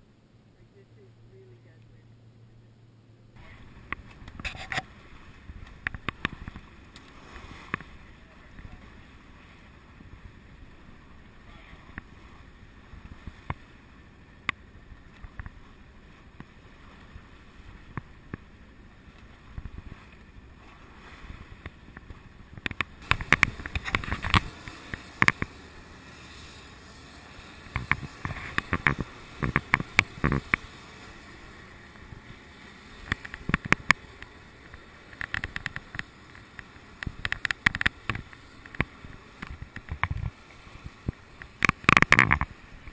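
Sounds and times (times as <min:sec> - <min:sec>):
water splashing against boat hull: 0:03.4 - 0:42.9.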